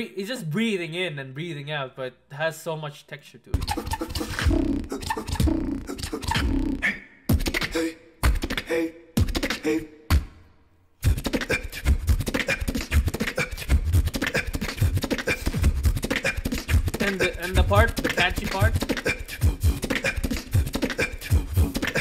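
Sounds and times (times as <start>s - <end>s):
beatboxing into a microphone: 3.6s - 10.3s, 11.0s - 22.0s.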